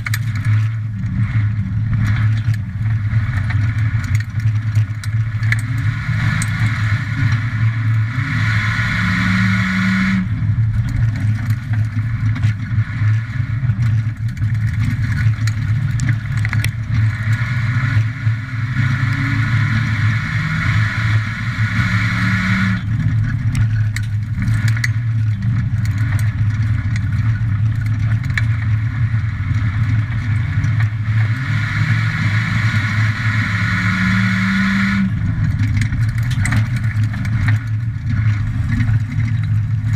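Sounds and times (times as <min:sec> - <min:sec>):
racing engine under load: 0:00.0 - 0:39.9.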